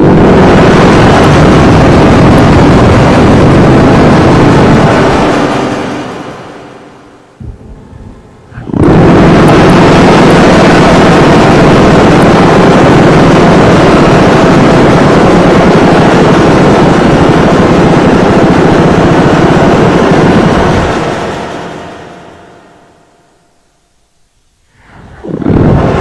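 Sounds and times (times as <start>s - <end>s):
harsh distorted noise: 0.0s - 23.3s, 24.7s - 26.0s.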